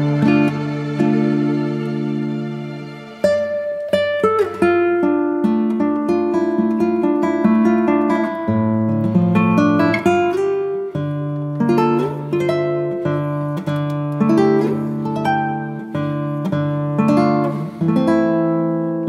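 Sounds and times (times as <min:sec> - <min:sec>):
guitar piece: 0:00.0 - 0:19.0.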